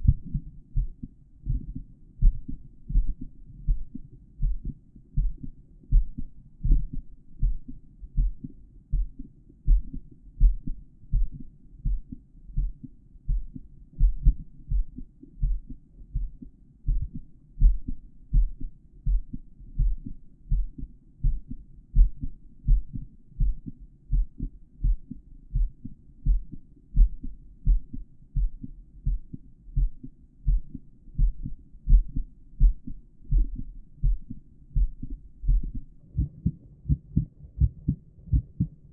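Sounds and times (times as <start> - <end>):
heartbeat thumps: 0.0 - 38.9.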